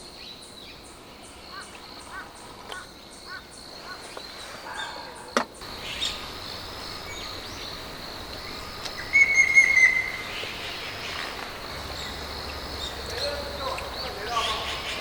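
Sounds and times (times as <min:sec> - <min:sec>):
rapid bird chirps: 0:00.0 - 0:15.0
wild birds calling: 0:00.0 - 0:15.0.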